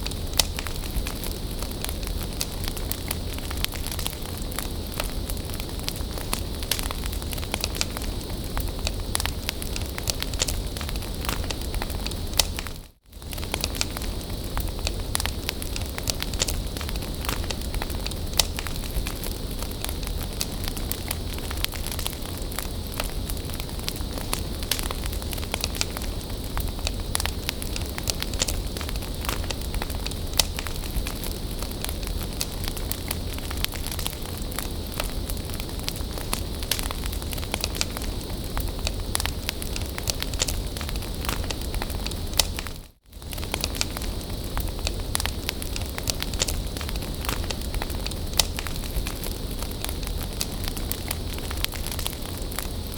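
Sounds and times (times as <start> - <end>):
bonfire hissing and crackling: 0.0 - 52.9.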